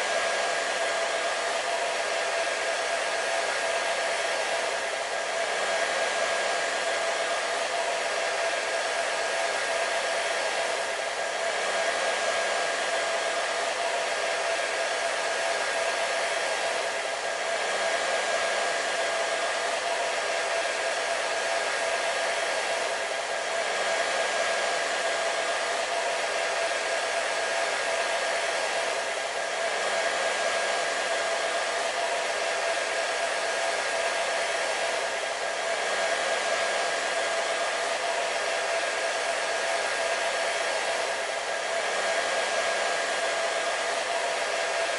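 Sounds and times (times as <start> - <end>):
hair dryer running: 0.0 - 44.9.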